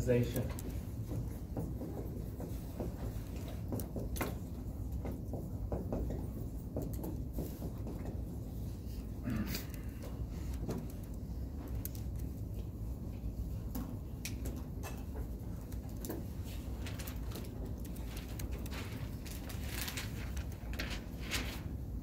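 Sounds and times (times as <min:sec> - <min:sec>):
faint clicks and taps: 0:00.2 - 0:09.1, 0:09.7 - 0:21.0.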